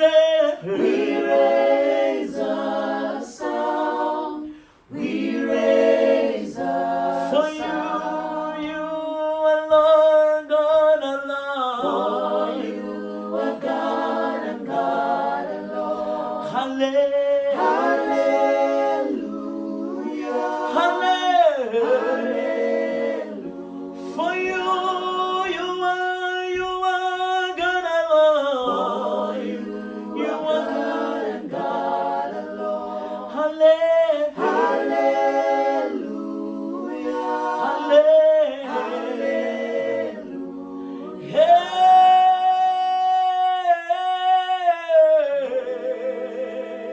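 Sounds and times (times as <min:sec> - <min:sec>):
voices singing in harmony: 0:00.0 - 0:46.9.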